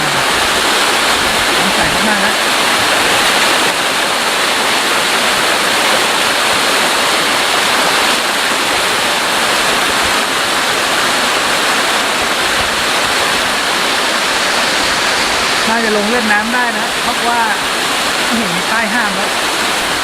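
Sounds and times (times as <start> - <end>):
waterfall pouring and splashing: 0.0 - 20.0.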